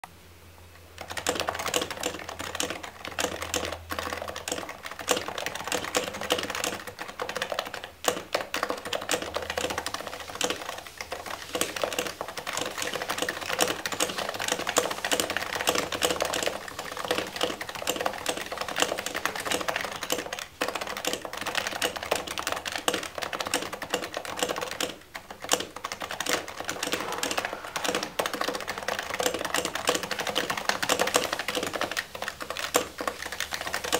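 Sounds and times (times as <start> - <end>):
soft keyboard typing: 0.8 - 33.9.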